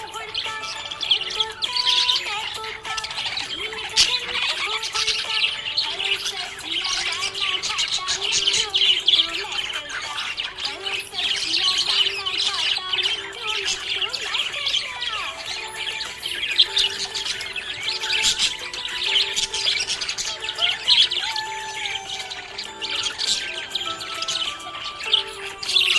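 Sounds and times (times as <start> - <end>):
budgerigar chirping and warbling: 0.0 - 25.9.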